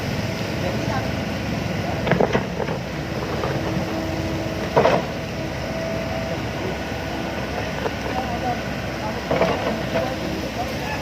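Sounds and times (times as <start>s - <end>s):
construction machinery running: 0.0s - 11.0s
faint steady whine: 0.0s - 11.0s.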